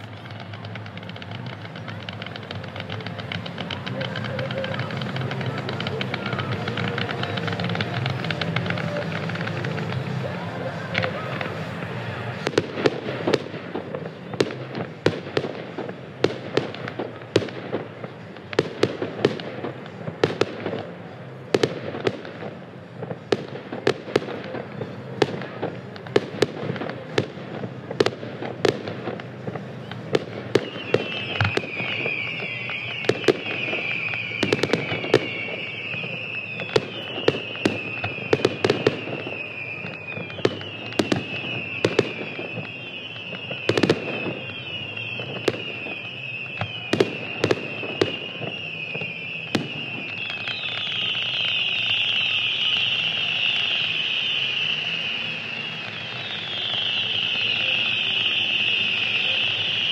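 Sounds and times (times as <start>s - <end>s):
fireworks bangs and pops: 0.0s - 59.9s.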